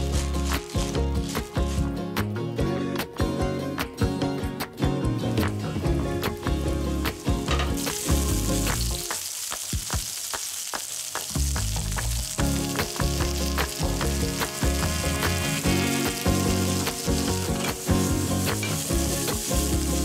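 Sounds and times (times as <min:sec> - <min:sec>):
mushrooms sizzling in frying pan: 0:00.0 - 0:02.0, 0:05.8 - 0:20.0
background music: 0:00.0 - 0:09.3, 0:10.9 - 0:20.0.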